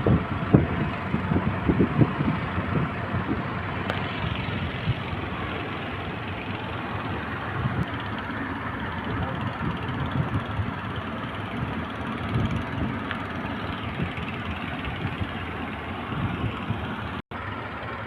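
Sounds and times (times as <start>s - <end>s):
wind buffeting microphone: 0.0s - 17.2s.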